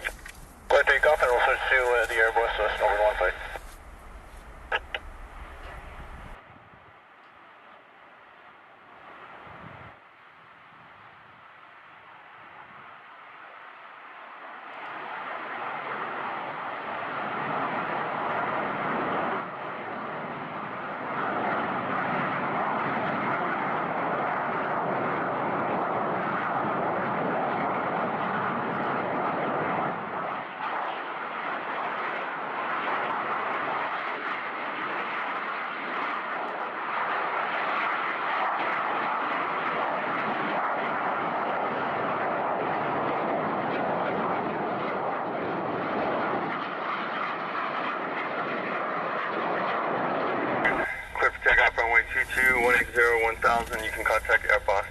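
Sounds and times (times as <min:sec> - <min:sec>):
jet engines roaring: 0:00.0 - 0:06.4, 0:11.5 - 0:54.9.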